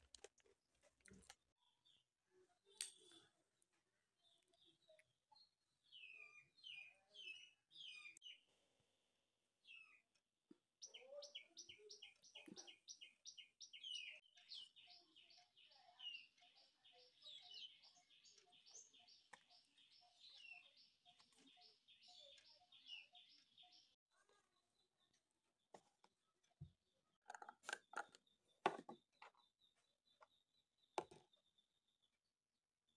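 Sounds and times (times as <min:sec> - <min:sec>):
small birds chirping: 0:01.0 - 0:08.8, 0:09.6 - 0:32.9.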